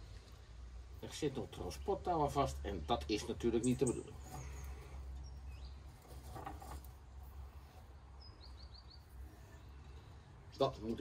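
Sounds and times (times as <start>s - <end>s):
small birds chirping: 1.0s - 11.0s.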